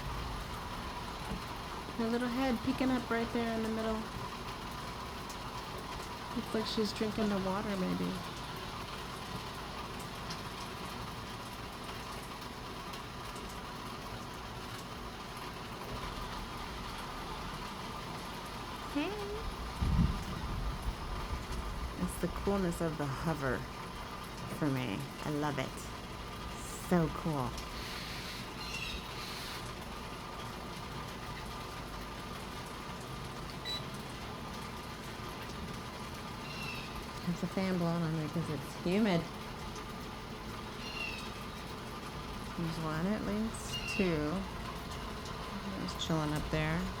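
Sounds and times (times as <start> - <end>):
electric fan humming: 0.0 - 47.0
light rain hiss: 0.0 - 47.0.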